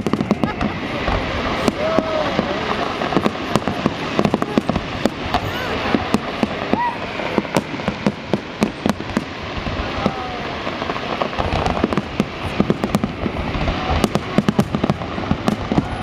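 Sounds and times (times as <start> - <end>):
fireworks bangs and cracks: 0.0 - 16.0
steady crackling haze: 0.0 - 16.0.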